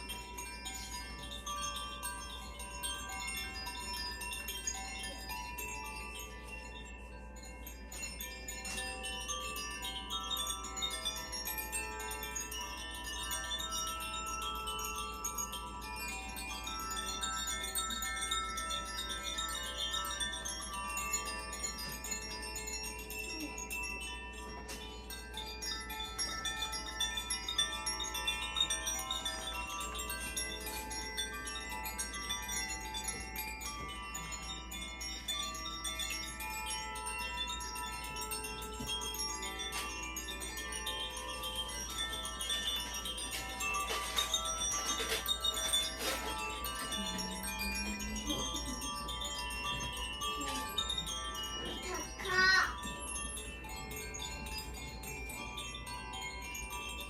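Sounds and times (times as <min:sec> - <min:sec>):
tuned metal chimes ringing: 0:00.0 - 0:57.0.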